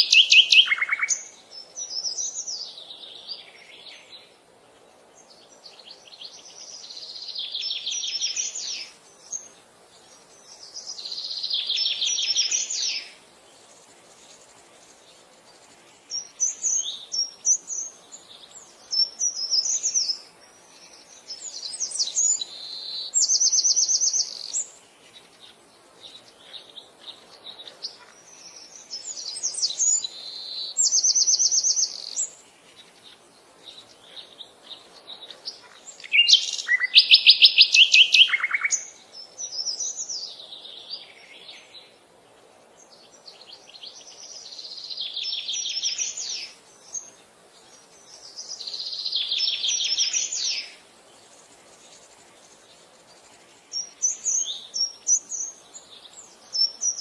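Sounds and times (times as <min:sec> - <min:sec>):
birds singing trills: 0:00.0 - 0:57.0.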